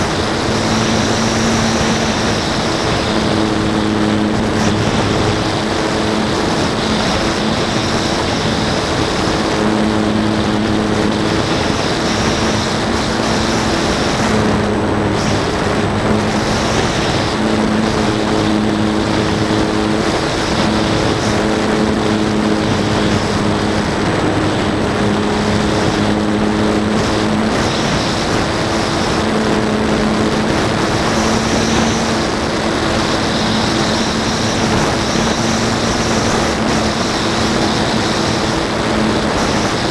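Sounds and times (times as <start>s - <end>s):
model airplane motor and propeller: 0.0s - 39.9s
wind rush over microphone: 0.0s - 39.9s.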